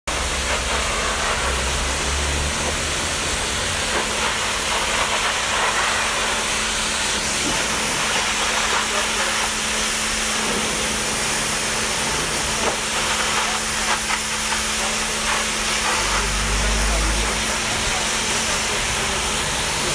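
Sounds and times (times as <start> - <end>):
cleaning tool hissing spray: 0.1 - 19.9.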